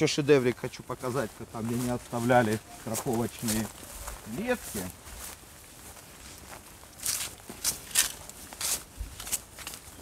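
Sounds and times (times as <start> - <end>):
faint footsteps on grass: 0.0 - 10.0.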